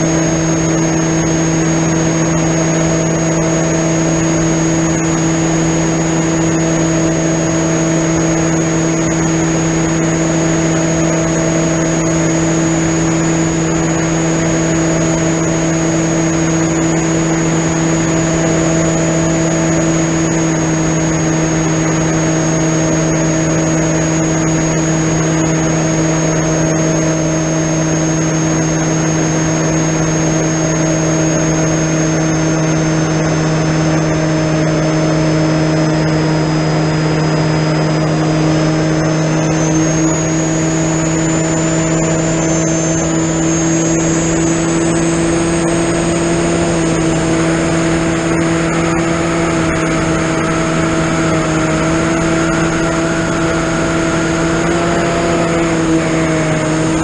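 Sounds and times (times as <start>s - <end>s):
electric motor and propeller drone: 0.0s - 57.0s
thin high whine: 0.0s - 57.0s.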